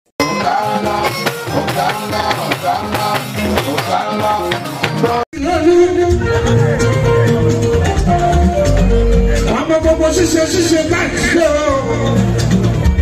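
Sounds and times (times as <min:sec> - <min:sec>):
music with drum beat: 0:00.2 - 0:13.0
person singing: 0:00.2 - 0:13.0.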